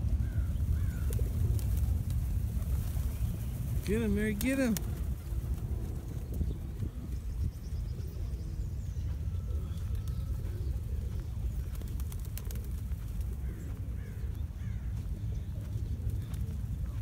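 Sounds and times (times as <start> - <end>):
pigeons calling: 0.0 - 17.0
steady low rumble: 0.0 - 17.0.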